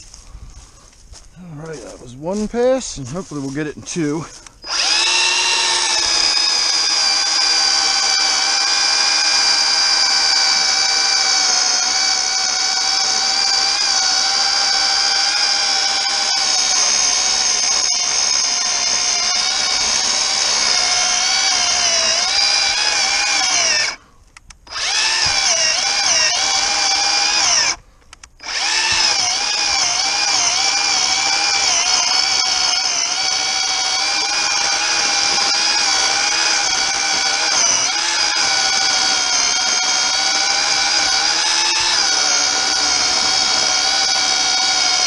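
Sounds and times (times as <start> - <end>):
electric chainsaw cutting wood: 4.4 - 24.0, 24.6 - 27.8, 28.4 - 45.0.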